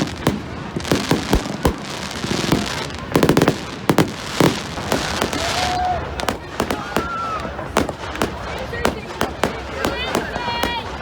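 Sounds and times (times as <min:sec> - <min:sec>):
fireworks bangs and pops: 0:00.0 - 0:11.0
steady fireworks crackle: 0:00.0 - 0:11.0.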